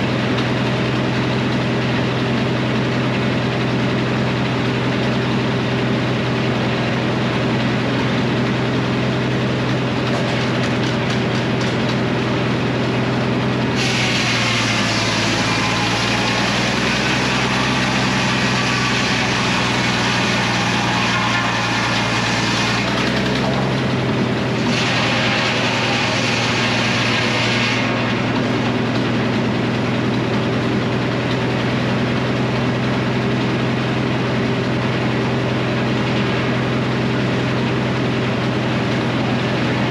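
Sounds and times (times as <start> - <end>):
circular sawmill cutting log: 0.0 - 39.9.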